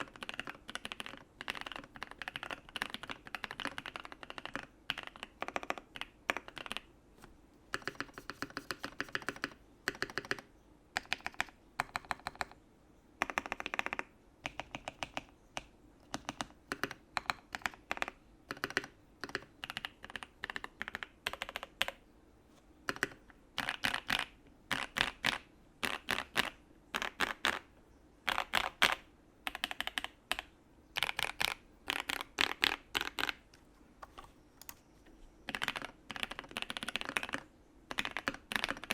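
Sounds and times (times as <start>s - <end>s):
mechanical keyboard typing: 0.0s - 6.9s, 7.7s - 12.6s, 13.2s - 22.0s, 22.9s - 27.7s, 28.3s - 34.8s, 35.4s - 38.9s.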